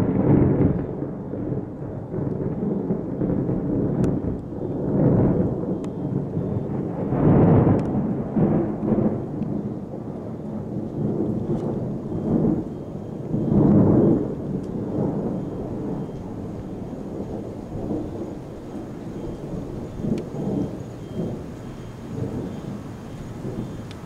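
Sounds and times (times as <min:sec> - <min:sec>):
thunder rolling: 0:00.0 - 0:24.0.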